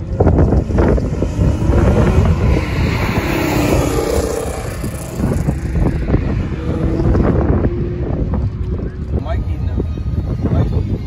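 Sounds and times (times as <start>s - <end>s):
car engine: 0.0s - 11.0s
road noise: 0.0s - 11.0s
wind buffeting microphone: 0.0s - 11.0s.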